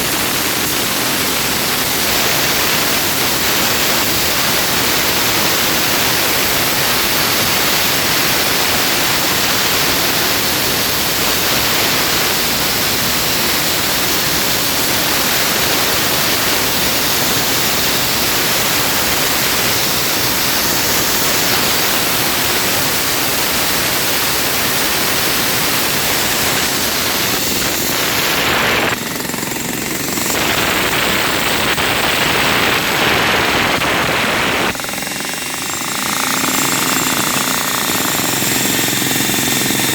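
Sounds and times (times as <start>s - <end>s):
power tool working concrete: 0.0s - 39.9s.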